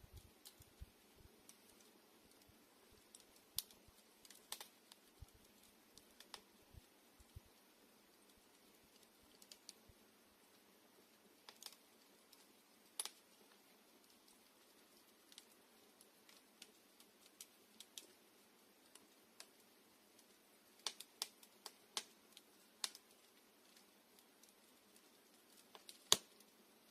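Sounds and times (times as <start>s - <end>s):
campfire crackling and popping: 0.0s - 26.9s
faint steady hiss: 0.0s - 26.9s.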